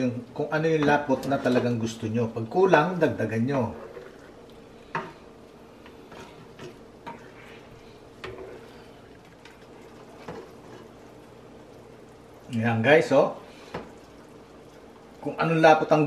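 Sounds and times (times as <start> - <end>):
spoon stirring simmering sauce: 0.4 - 12.6, 13.4 - 15.3.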